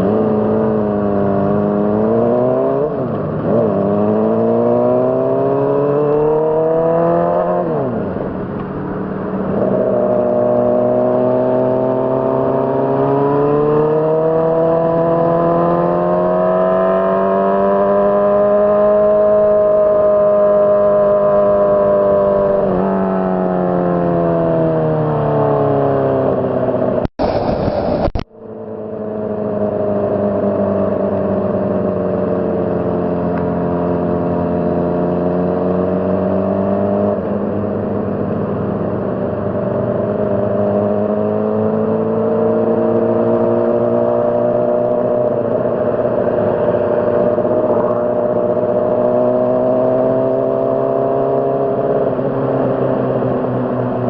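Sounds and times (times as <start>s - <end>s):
motorcycle engine revving: 0.0s - 27.1s, 28.1s - 54.0s.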